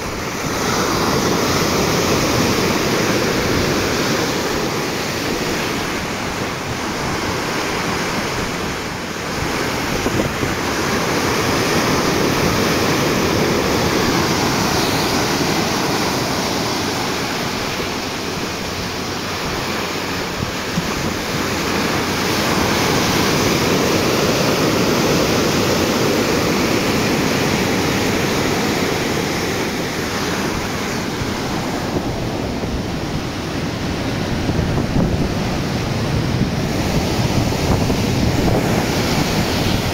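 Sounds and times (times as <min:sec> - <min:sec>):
water rushing along boat hull: 0:00.0 - 0:39.9
wind buffeting microphone: 0:00.0 - 0:39.9.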